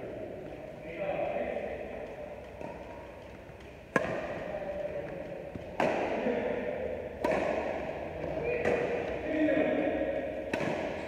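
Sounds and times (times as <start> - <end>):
racket striking shuttlecock: 2.0 - 11.0.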